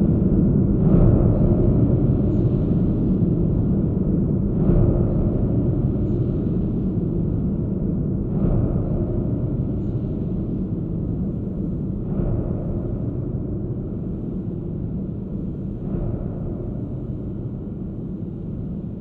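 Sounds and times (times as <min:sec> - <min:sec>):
low noisy spring drone: 0:00.0 - 0:19.0.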